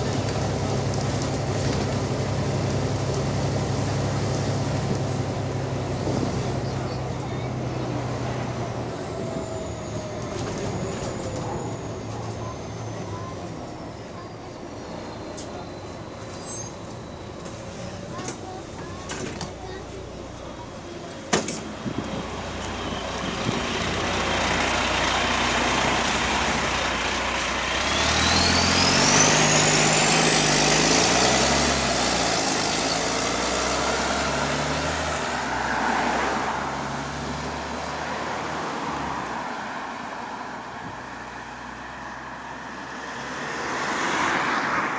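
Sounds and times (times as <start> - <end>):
bus diesel engine accelerating: 0.0 - 44.9.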